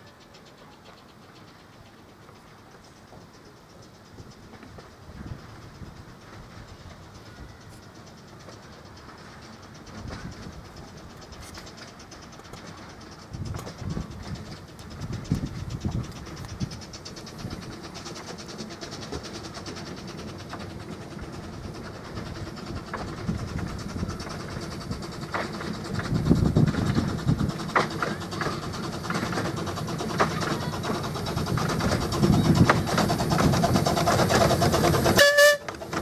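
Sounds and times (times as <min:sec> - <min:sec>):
steam locomotive hauling carriages: 0:00.0 - 0:36.0
wheels clicking over rail joints: 0:00.0 - 0:36.0.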